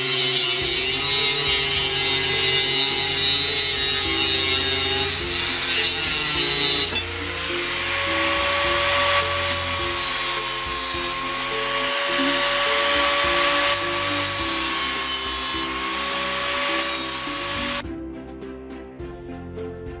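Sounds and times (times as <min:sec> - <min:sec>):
angle grinder whining: 0:00.0 - 0:17.8
grinding on steel: 0:00.0 - 0:17.8.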